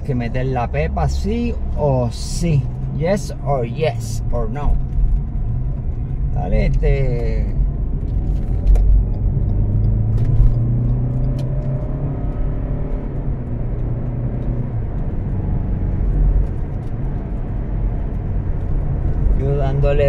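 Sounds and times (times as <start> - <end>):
car engine hum inside cabin: 0.0 - 20.0.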